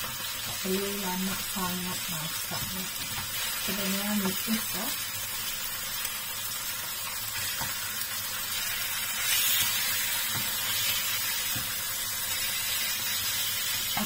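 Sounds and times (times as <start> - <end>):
fish sizzling in frying pan: 0.0 - 14.0.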